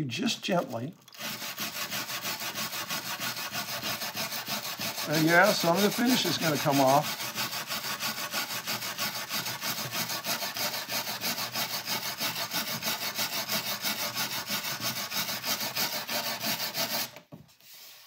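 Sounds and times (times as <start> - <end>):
brass brush scrubbing wood: 0.6 - 18.0.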